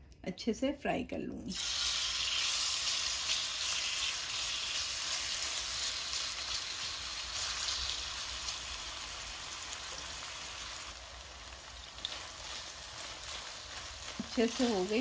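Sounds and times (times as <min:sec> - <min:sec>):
chicken frying in oil: 0:01.5 - 0:15.0.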